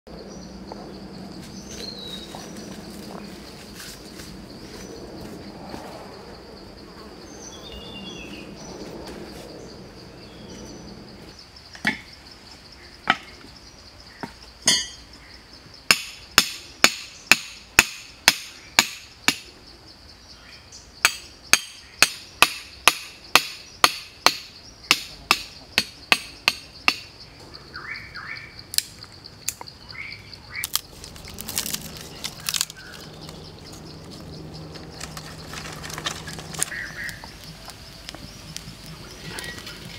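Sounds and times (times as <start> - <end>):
insects droning: 0.1 - 39.9.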